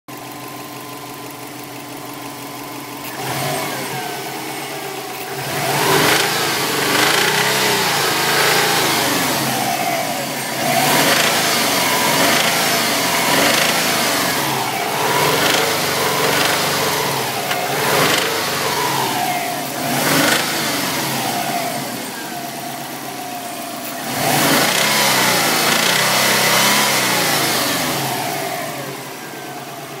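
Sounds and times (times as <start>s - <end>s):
car engine idling and revving: 0.1s - 30.0s
engine knocking: 0.1s - 30.0s.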